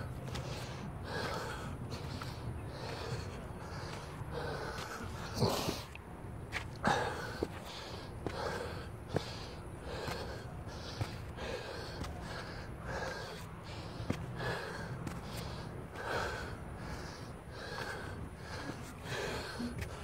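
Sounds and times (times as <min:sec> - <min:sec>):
man breathing heavily: 0:00.0 - 0:20.0.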